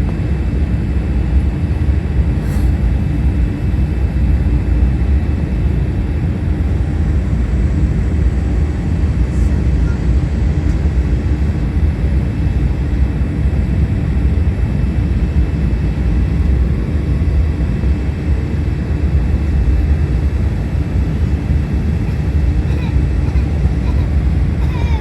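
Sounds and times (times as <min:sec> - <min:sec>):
jet airliner rumble: 0:00.0 - 0:25.0.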